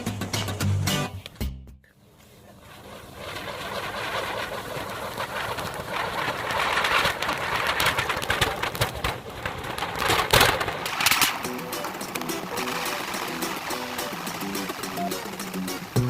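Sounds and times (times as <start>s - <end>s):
fireworks hissing and crackling: 2.0s - 16.0s.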